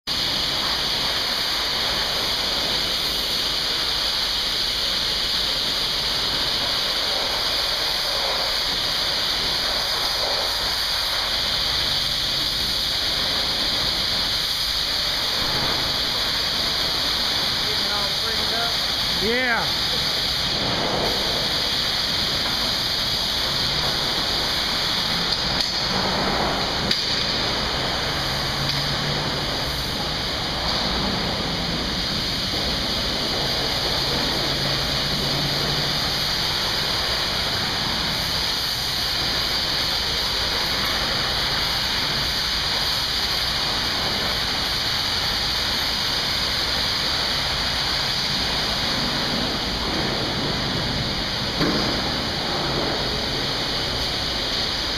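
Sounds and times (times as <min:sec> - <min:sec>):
water spraying: 0:00.0 - 0:54.9.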